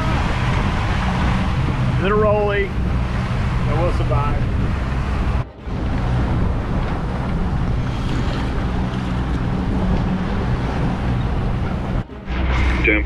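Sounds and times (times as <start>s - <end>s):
boat engine droning: 0.0s - 13.0s
water rushing: 0.0s - 13.0s
wind rushing: 0.0s - 13.0s.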